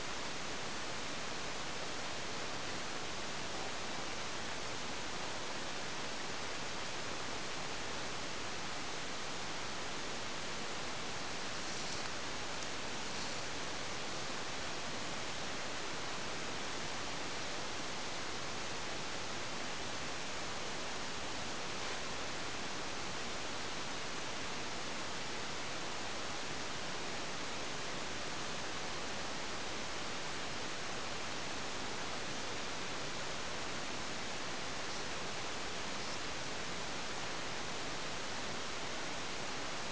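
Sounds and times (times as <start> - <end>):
steady microphone hiss: 0.0 - 39.9.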